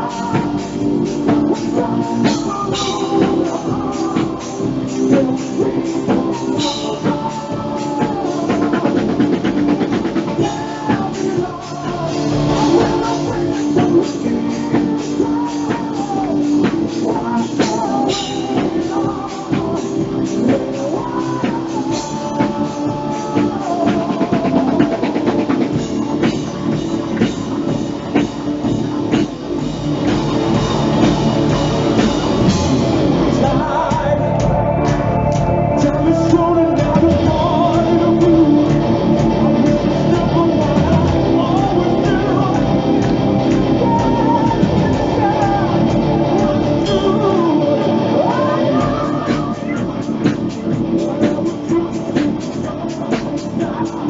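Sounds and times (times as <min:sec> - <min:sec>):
man singing: 0:00.0 - 0:29.3, 0:30.7 - 0:54.0
bass guitar: 0:00.0 - 0:54.0
drum kit: 0:00.0 - 0:54.0
electric guitar: 0:00.0 - 0:54.0.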